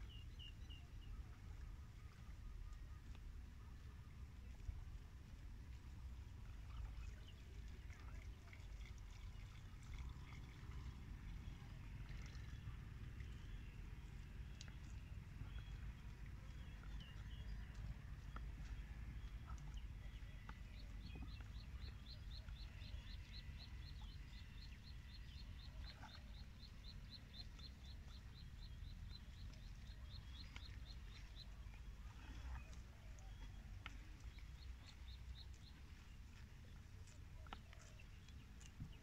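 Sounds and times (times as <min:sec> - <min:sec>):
low steady rumble: 0:00.0 - 0:39.0.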